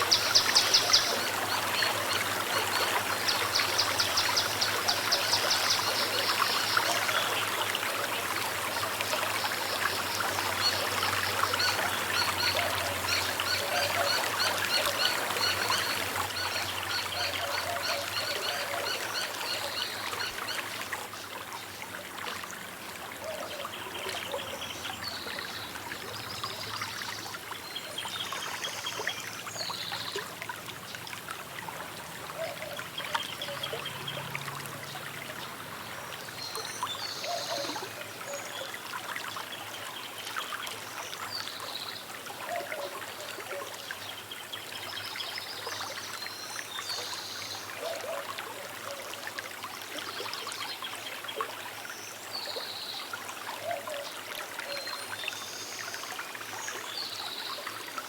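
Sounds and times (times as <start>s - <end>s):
river water running: 0.0s - 58.0s.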